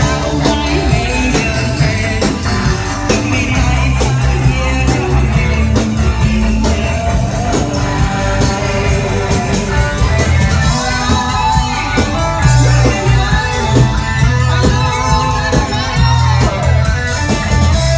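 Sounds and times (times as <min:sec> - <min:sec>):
person singing: 0:00.0 - 0:16.8
live rock band playing: 0:00.0 - 0:17.9.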